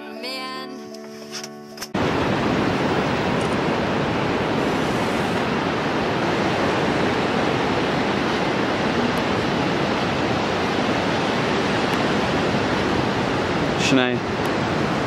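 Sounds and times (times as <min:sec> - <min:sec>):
wind: 0:01.4 - 0:15.0
sea surf: 0:02.0 - 0:15.0.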